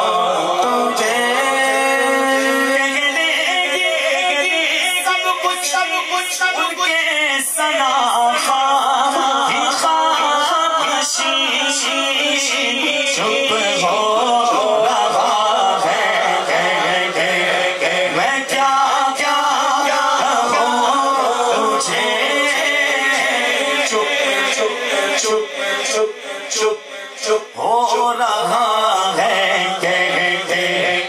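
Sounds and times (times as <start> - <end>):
man singing devotional poem: 0.0 - 31.0.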